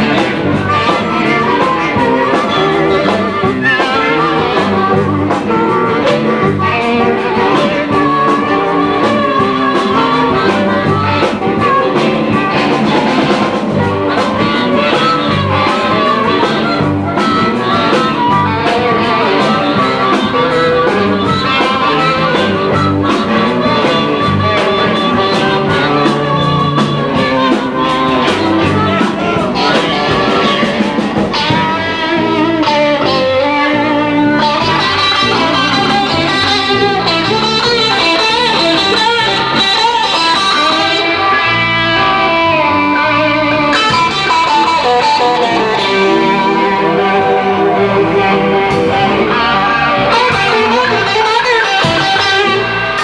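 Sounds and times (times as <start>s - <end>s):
blues band playing live: 0.0s - 53.0s.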